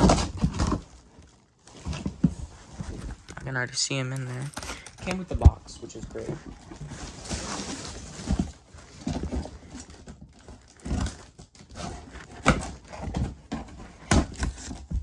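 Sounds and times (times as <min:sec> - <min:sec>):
cardboard and packing rustling: 0:00.0 - 0:15.0.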